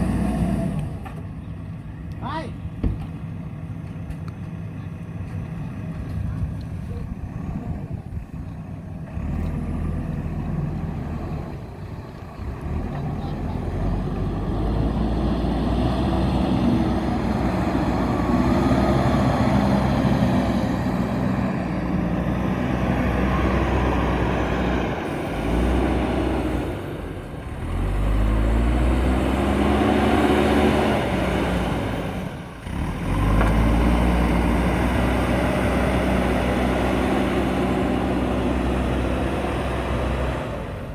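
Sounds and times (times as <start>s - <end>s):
diesel engine revving: 0.0s - 1.8s, 3.2s - 40.9s.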